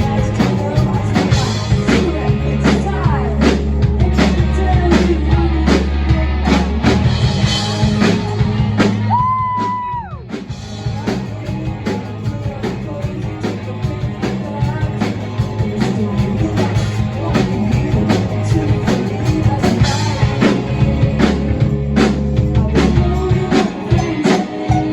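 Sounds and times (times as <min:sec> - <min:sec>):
person singing: 0:00.0 - 0:07.0, 0:10.8 - 0:24.9
drum kit beat: 0:00.0 - 0:24.9
guitar: 0:00.0 - 0:24.9
rock band music: 0:00.0 - 0:24.9.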